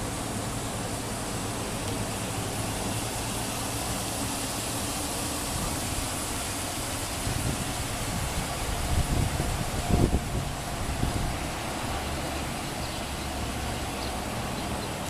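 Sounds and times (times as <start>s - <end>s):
vehicle running: 0.0s - 15.0s.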